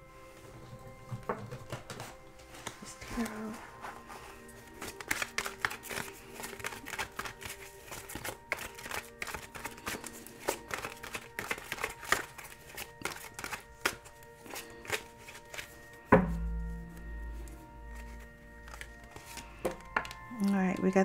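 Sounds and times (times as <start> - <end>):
soft background music: 0.0 - 21.0
cards being shuffled: 1.7 - 16.1, 16.9 - 21.0.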